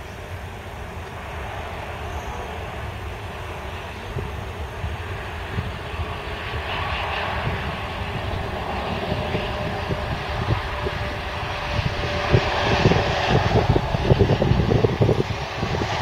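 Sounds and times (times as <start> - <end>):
jet engines rushing: 0.0 - 16.0.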